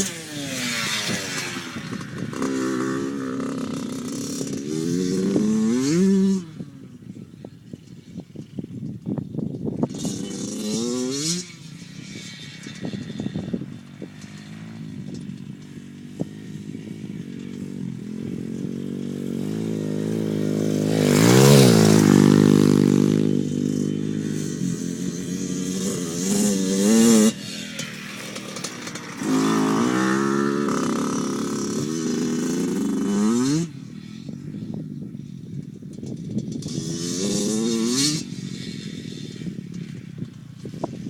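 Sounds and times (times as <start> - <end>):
dirt bike engine revving: 0.0 - 6.7, 9.8 - 34.7, 36.0 - 41.0.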